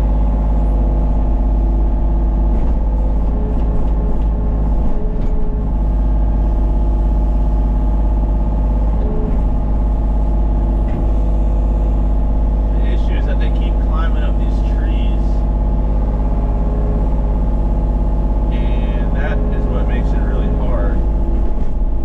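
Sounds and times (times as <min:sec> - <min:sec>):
diesel engine running: 0:00.0 - 0:22.0
hydraulic whine: 0:00.0 - 0:22.0.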